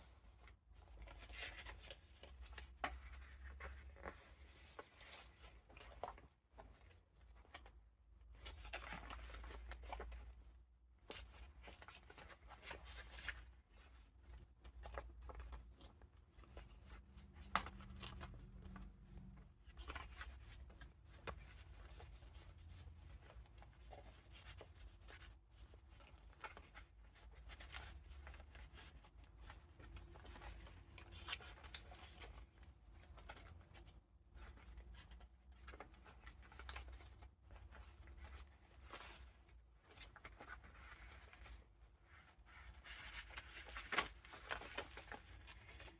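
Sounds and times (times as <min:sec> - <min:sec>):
paper rustling and crinkling: 0:00.0 - 0:45.9.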